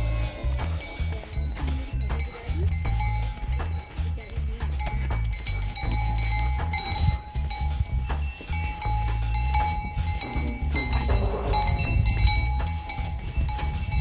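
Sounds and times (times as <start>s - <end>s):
camel bells ringing: 0.0s - 14.0s
wind rumble on microphone: 0.8s - 14.0s.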